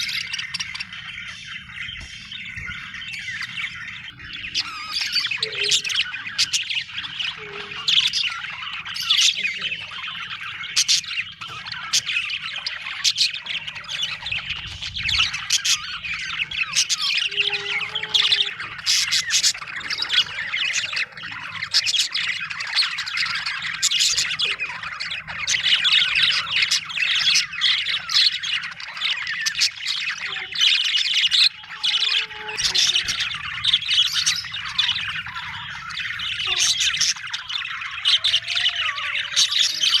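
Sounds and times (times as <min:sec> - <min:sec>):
budgerigar squawks: 0:00.0 - 0:40.0
budgerigars chirping and chattering: 0:00.0 - 0:40.0.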